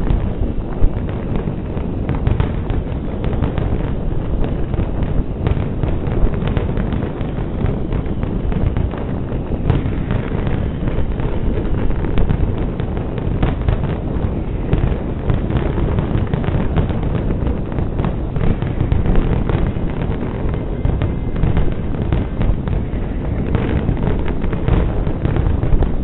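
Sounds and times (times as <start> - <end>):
fireworks booming: 0.0 - 26.0
sharp firework cracks: 0.0 - 26.0.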